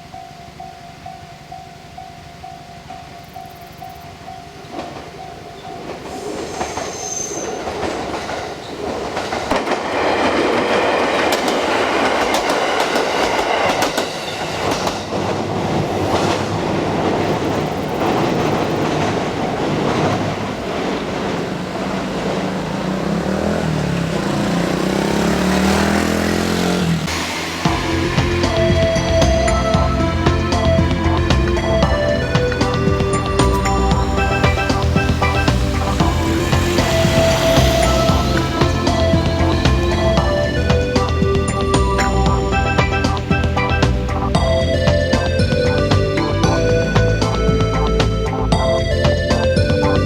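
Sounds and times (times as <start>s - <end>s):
train wheels clacking over rail joints: 2.9s - 50.0s.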